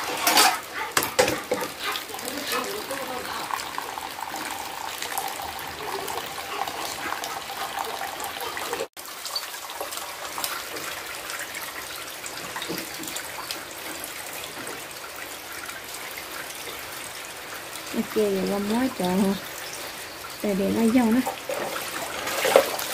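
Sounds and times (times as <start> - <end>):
tap water running into basin: 0.0 - 22.9.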